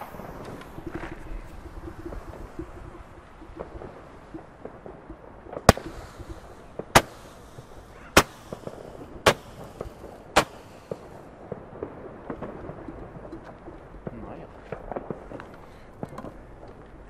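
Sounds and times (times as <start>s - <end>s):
roman candle shots popping: 0.0s - 16.8s.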